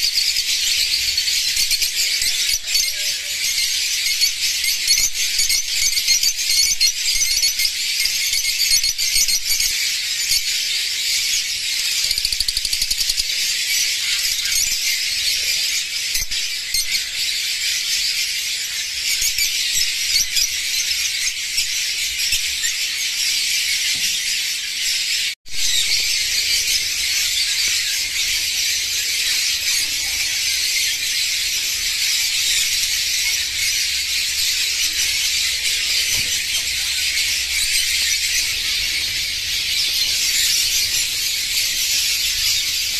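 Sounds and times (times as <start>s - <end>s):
caged birds chattering: 0.0s - 42.9s.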